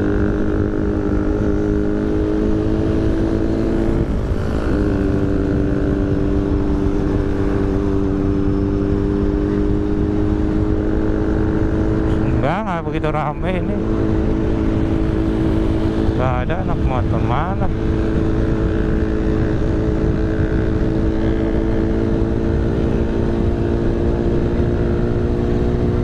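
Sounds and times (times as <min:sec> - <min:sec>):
motorcycle engine at cruise: 0:00.0 - 0:26.0
wind rush: 0:00.0 - 0:26.0.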